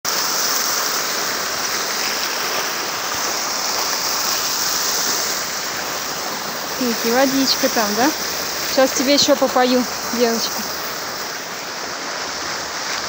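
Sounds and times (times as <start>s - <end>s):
fountain water splashing: 0.1s - 13.0s.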